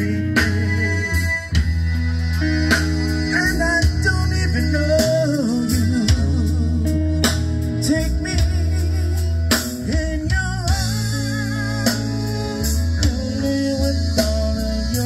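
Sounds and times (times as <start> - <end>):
button accordion melody: 0.0 - 15.0
live band playing: 0.0 - 15.0
steady drum beat: 0.0 - 15.0.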